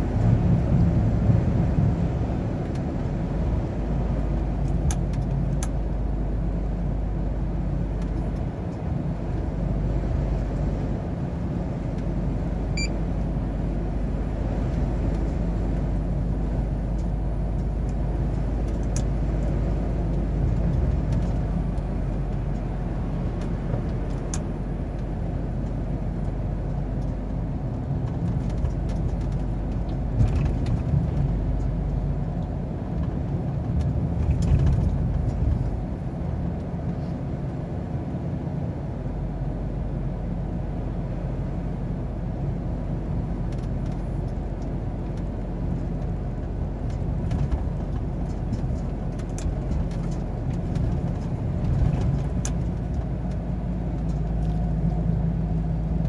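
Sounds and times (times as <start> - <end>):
truck engine and tyre drone: 0.0 - 56.0.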